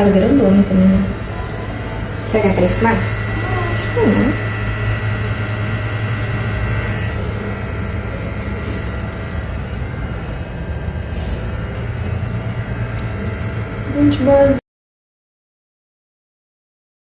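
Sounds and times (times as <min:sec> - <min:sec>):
low machine rumble and hum: 0:00.0 - 0:14.6.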